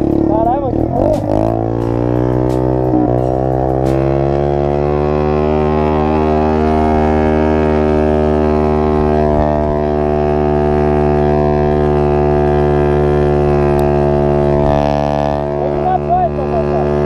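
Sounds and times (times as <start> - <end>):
dirt bike engine droning: 0.0 - 17.0.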